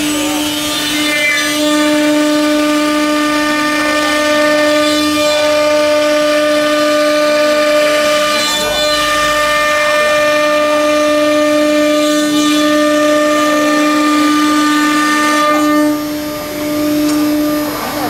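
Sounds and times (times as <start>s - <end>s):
cnc router whining: 0.0s - 18.0s.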